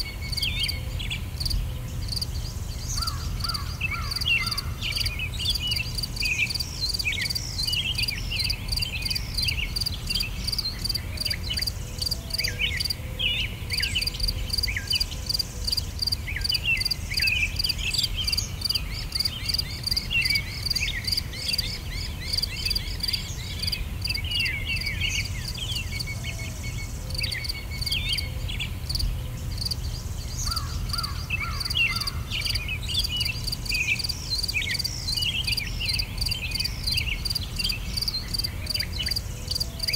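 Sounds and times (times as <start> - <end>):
bird chirps: 0.0 - 39.9.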